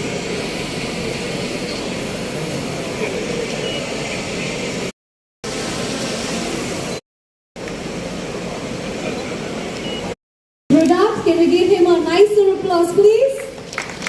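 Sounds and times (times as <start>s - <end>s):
event hall background rush: 0.0s - 7.0s, 7.6s - 14.0s.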